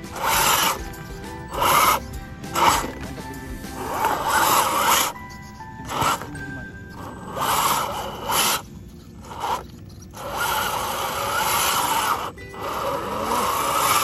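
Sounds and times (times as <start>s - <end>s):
toy truck drivetrain whirring: 0.0s - 14.0s.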